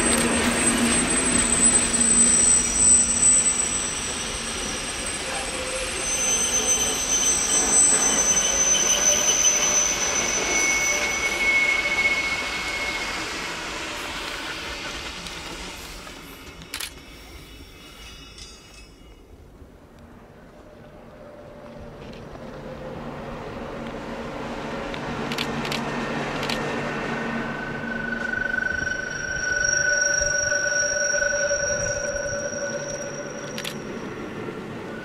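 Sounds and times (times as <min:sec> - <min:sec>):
wheels squealing: 0:00.0 - 0:19.1, 0:25.2 - 0:35.0
train coaches rolling past: 0:00.0 - 0:35.0.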